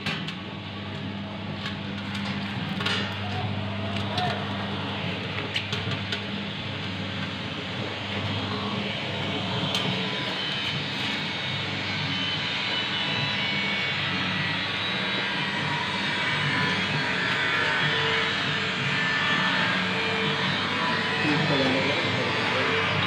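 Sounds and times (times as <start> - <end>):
popcorn machine droning: 0.0 - 23.0.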